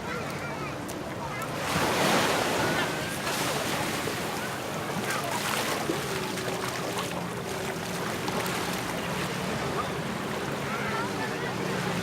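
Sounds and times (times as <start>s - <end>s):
surf washing onto beach: 1.3s - 12.0s.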